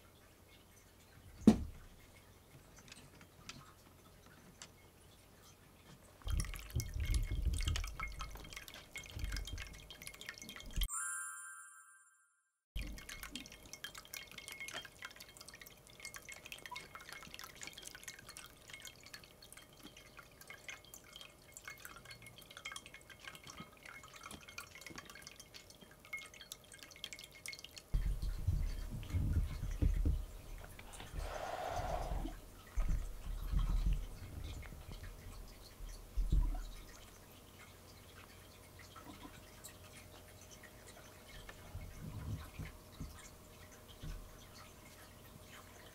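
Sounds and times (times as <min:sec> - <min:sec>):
water dripping and trickling: 0:00.0 - 0:10.9, 0:12.8 - 0:45.9.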